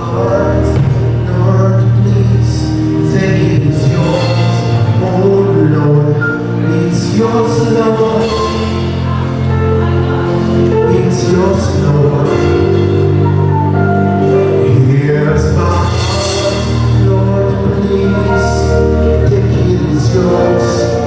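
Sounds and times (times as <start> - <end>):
worship music with singing: 0.0 - 21.0.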